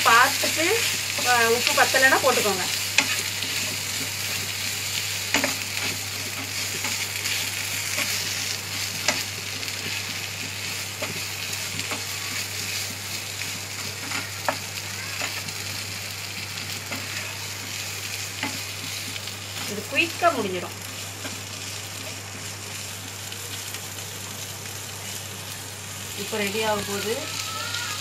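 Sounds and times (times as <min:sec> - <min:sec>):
potatoes sizzling in oil: 0:00.0 - 0:28.0.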